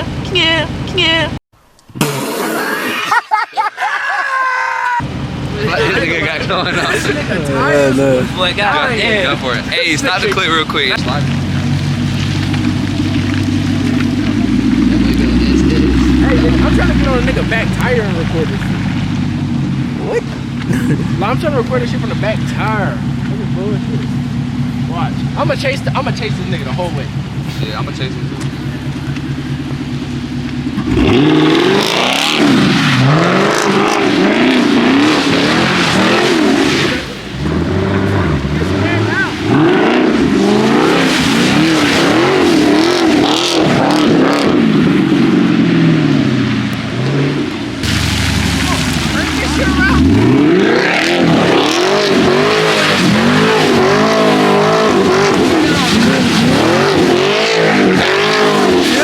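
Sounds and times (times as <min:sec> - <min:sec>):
car engine revving: 0:05.0 - 0:59.0.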